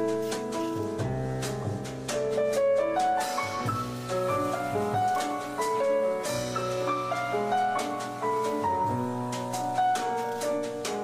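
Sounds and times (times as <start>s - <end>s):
jazzy instrumental music: 0.0s - 11.0s.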